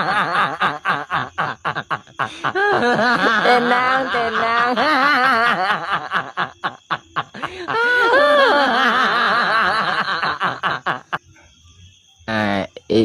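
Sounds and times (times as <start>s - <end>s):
person laughing hard: 0.0s - 11.2s.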